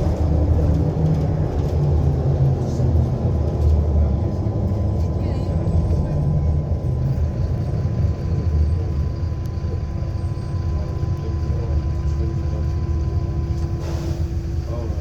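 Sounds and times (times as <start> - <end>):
bus low rumble: 0.0 - 15.0.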